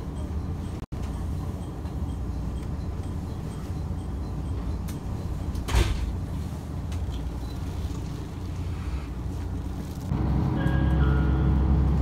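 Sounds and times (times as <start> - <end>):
diesel train rumble: 0.0 - 12.0.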